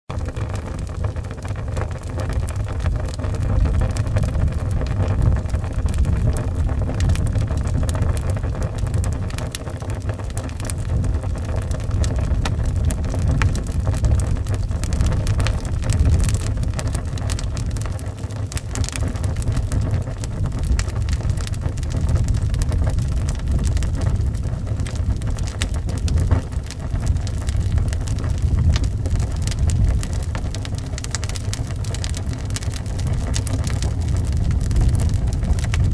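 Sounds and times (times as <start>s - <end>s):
wood fire crackling: 0.1s - 35.9s
howling wind: 0.2s - 35.9s.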